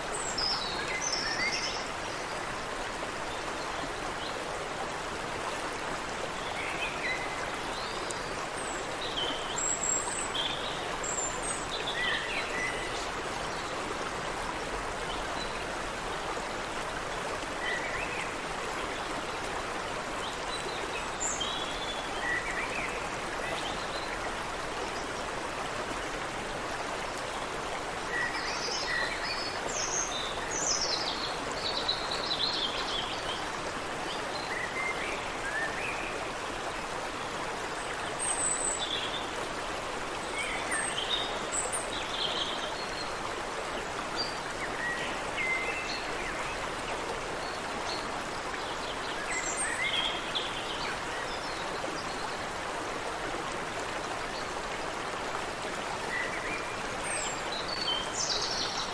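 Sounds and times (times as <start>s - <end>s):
creek water running: 0.0s - 58.9s.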